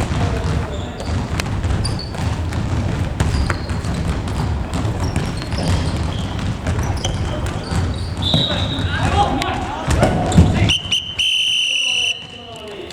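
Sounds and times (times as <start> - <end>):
ball kicked and bounced: 0.0 - 10.7
shoe squeaks: 0.0 - 12.9.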